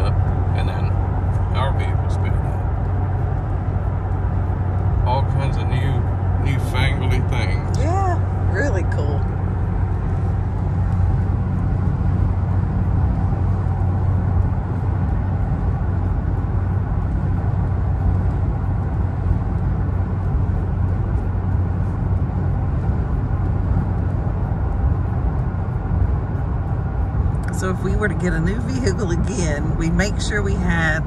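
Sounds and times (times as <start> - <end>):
car cabin road noise: 0.0 - 31.0.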